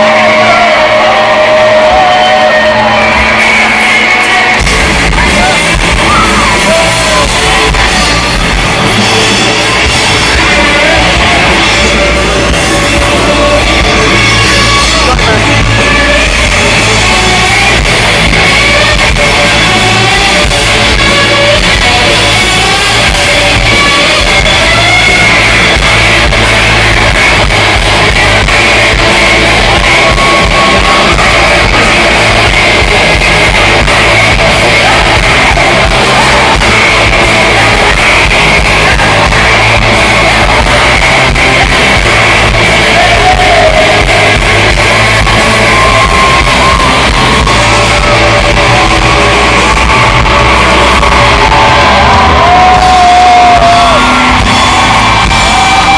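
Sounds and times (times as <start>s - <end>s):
drums: 0.0s - 55.9s
electric guitar: 0.0s - 55.9s
person singing: 0.0s - 55.9s.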